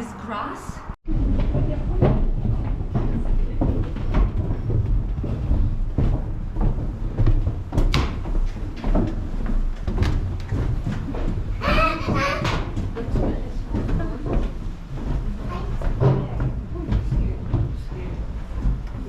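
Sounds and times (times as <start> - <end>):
irregular knocks and clicks: 1.2 - 19.0.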